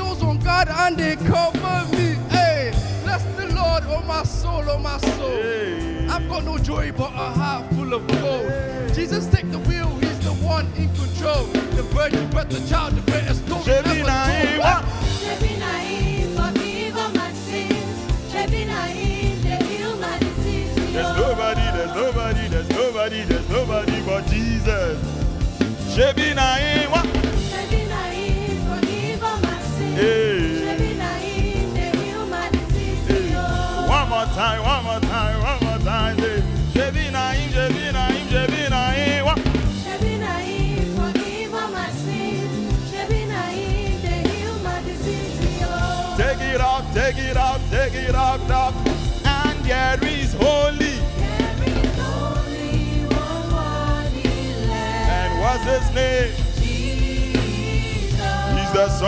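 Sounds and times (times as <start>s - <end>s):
bass line: 0.0s - 59.0s
gospel singing: 0.0s - 59.0s
steady drum beat: 0.0s - 59.0s.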